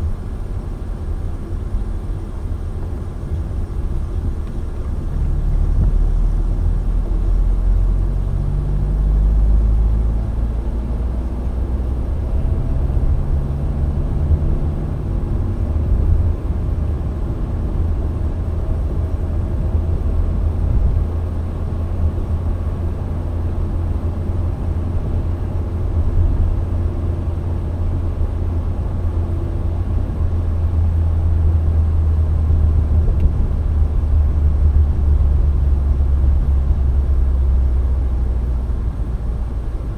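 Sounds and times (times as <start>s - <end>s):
car engine hum: 0.0s - 39.9s
road noise inside moving car: 0.0s - 39.9s.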